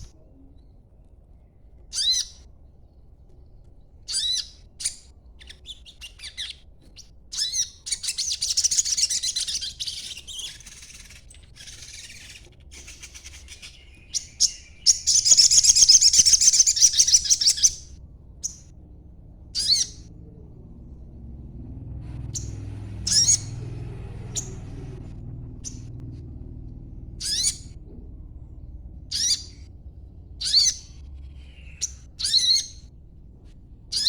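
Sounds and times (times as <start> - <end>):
songbird chirping twitters: 1.8 - 32.9.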